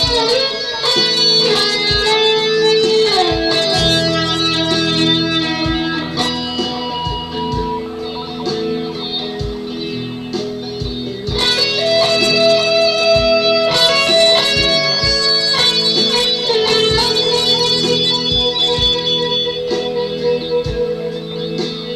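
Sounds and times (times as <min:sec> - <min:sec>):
backing track with kick drum: 0:00.0 - 0:21.9
electric guitar lead: 0:00.0 - 0:21.9.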